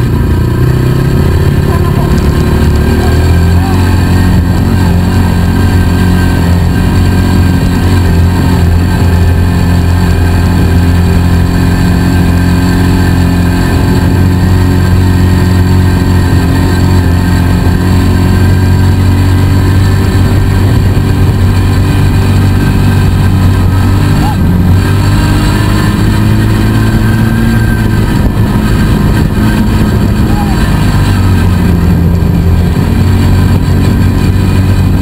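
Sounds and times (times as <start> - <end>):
vehicle engine running steadily: 0.0 - 35.0.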